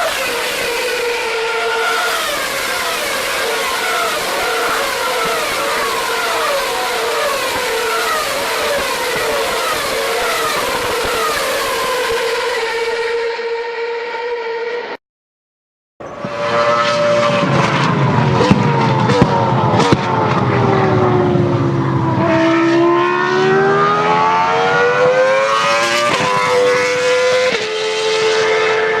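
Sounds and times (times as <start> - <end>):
distorted race car engine: 0.0 - 15.0, 16.0 - 29.0.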